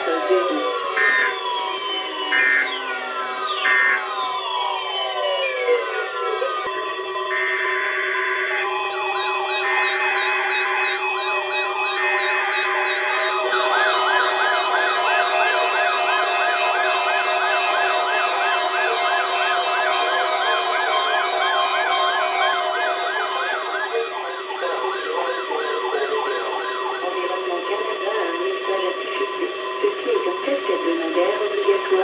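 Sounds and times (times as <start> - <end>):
electronic warbling alarm sirens: 0.0 - 32.0.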